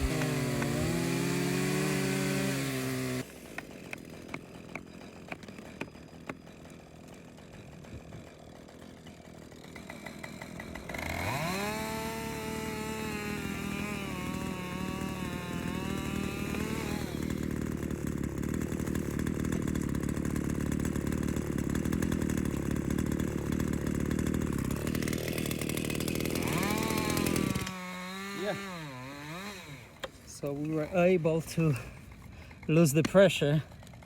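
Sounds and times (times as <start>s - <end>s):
chainsaw running: 0.0s - 34.0s.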